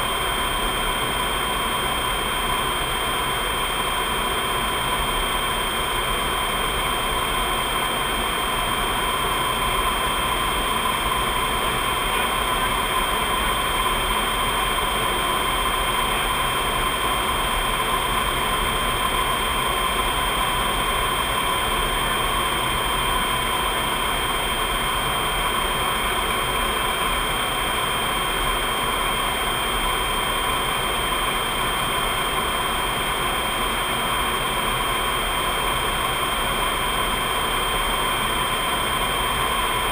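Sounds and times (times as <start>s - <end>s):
high-pitched whine: 0.0s - 39.9s
jet engine noise: 0.0s - 39.9s.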